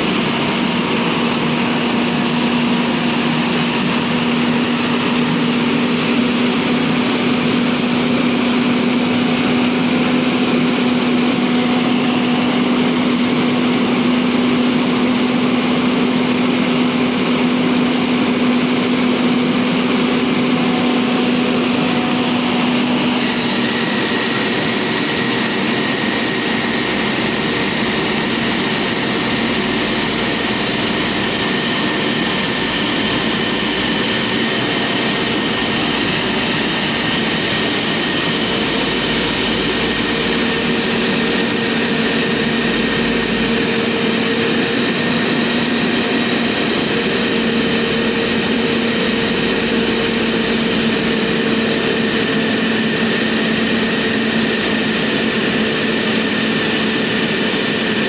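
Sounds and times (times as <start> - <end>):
machine engine drone: 0.0 - 58.0
steady whine: 0.0 - 58.0.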